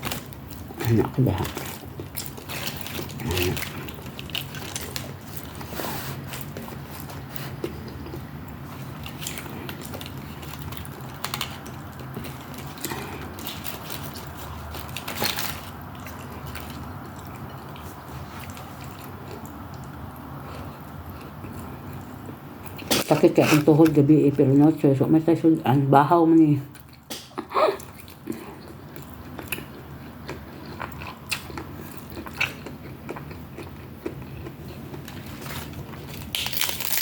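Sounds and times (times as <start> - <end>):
person chewing: 0.0 - 23.1, 26.7 - 37.0
low steady hum: 0.0 - 37.0.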